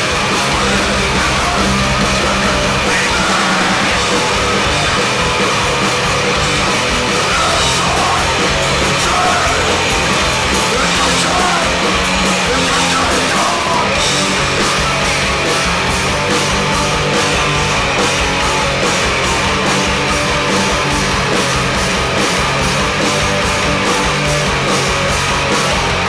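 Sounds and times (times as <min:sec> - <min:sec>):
bass guitar: 0:00.0 - 0:26.0
distorted electric guitars: 0:00.0 - 0:26.0
drum kit: 0:00.0 - 0:26.0.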